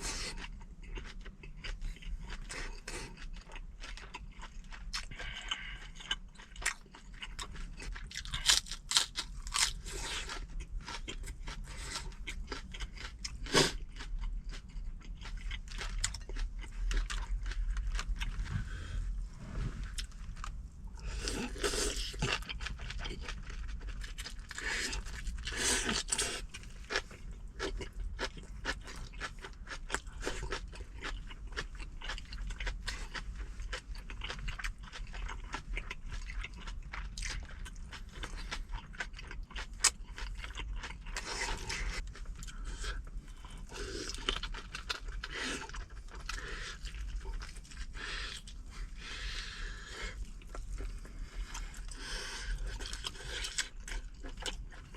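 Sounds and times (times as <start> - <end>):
person chewing crunchy food: 0.0 - 54.9.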